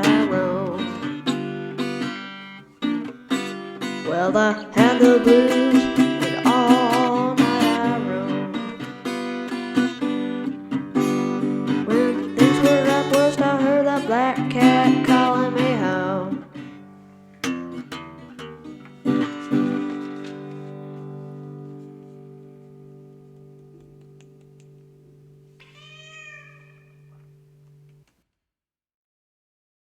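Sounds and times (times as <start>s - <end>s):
acoustic guitar blues: 0.0s - 25.4s.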